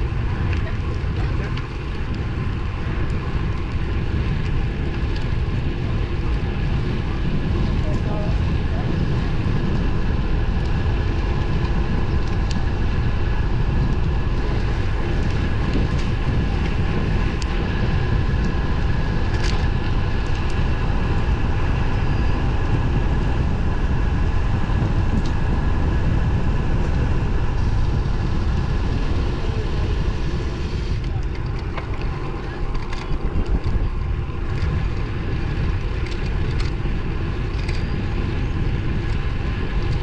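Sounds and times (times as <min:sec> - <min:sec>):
bicycle road noise: 0:00.0 - 0:40.0
wind on microphone: 0:00.0 - 0:40.0.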